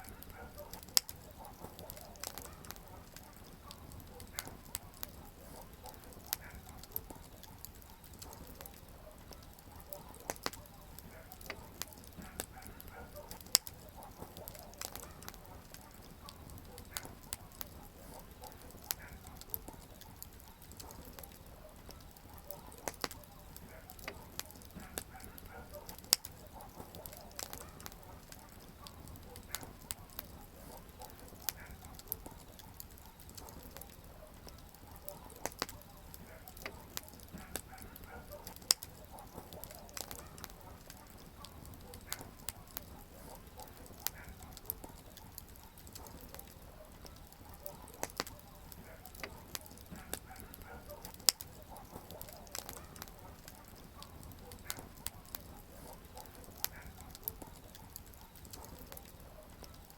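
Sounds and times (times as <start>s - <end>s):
campfire crackling and popping: 0.0s - 59.9s
faint hiss of burning: 0.0s - 59.9s
low rumble of flames: 0.0s - 59.9s.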